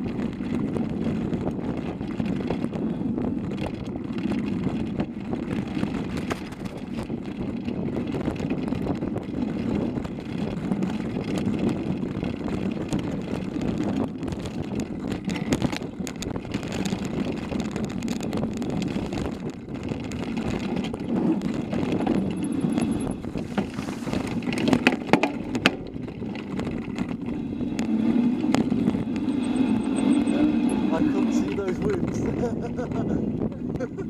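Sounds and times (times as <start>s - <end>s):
bike rattles and knocks: 0.0s - 34.0s
tyres rumbling on gravel: 0.0s - 34.0s.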